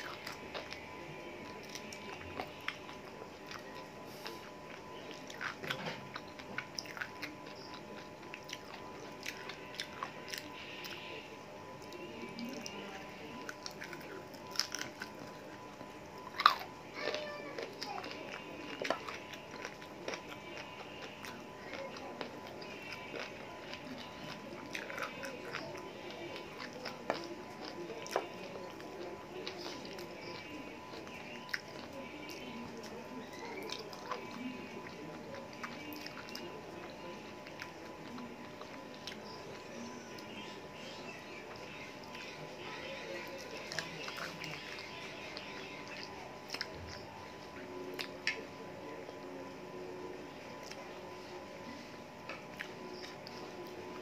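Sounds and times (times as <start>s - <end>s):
person chewing and biting: 0.0s - 48.6s.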